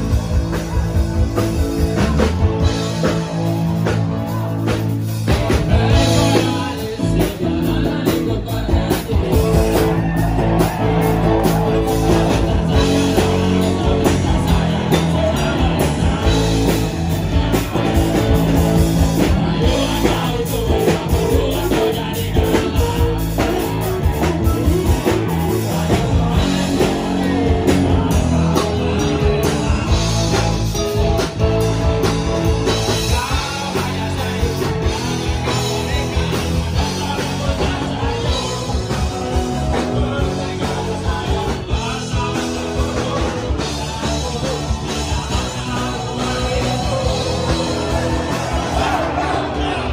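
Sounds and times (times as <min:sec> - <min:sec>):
drums: 0:00.0 - 0:49.9
electric guitar: 0:00.0 - 0:49.9
person singing: 0:00.0 - 0:49.9.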